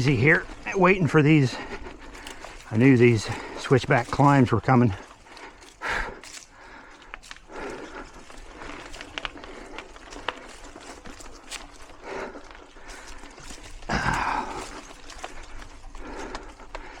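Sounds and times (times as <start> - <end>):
bike clicks and rattles: 0.0 - 17.0
rider breathing hard: 0.0 - 17.0.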